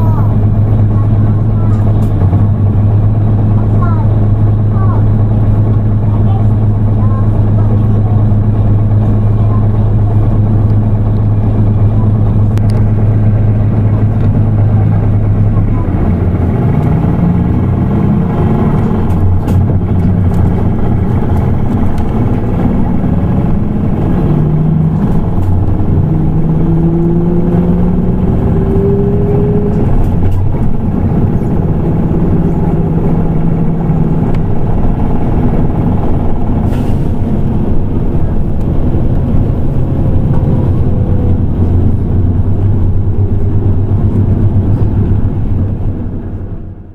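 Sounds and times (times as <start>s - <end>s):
bus diesel engine humming: 0.0s - 46.9s.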